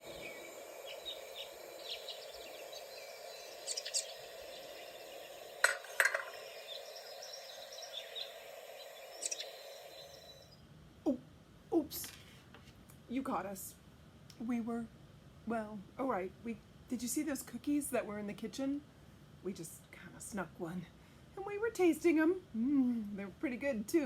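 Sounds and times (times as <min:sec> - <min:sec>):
faint steady background hum: 0:00.0 - 0:24.0.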